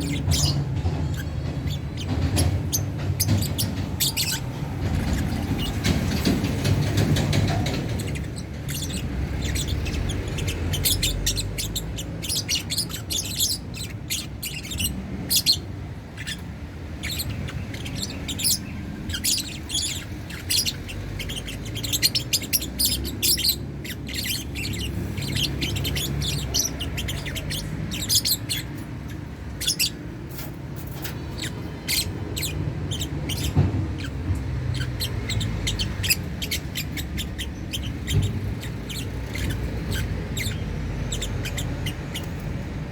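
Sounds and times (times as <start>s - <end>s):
lovebirds chirping: 0.0s - 42.9s.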